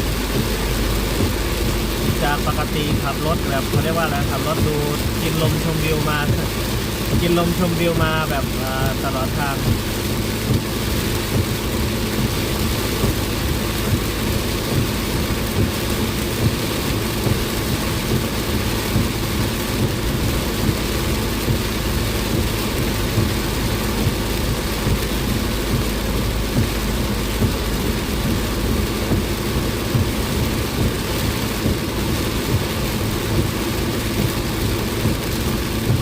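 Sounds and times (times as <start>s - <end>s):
heavy rain on a car: 0.0s - 36.0s
low car hum: 0.0s - 36.0s.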